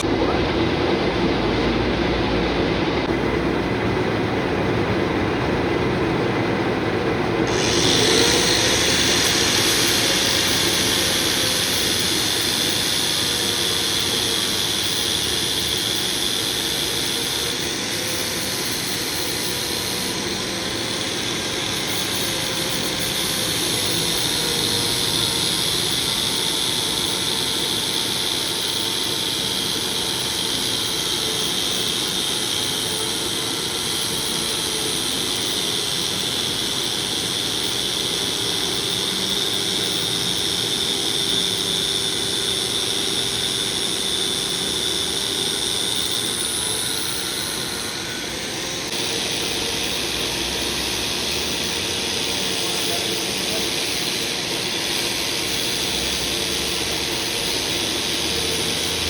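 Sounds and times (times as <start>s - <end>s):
workshop machinery running: 0.0s - 59.0s
loud hiss: 7.2s - 59.0s.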